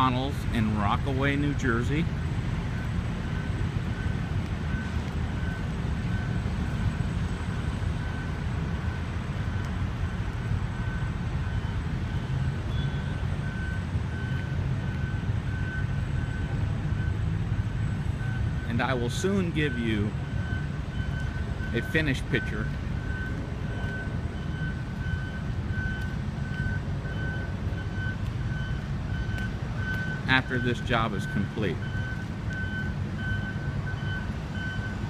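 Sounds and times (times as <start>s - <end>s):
low vehicle rumble: 0.0s - 35.0s
reversing alarm beeps: 2.6s - 35.0s.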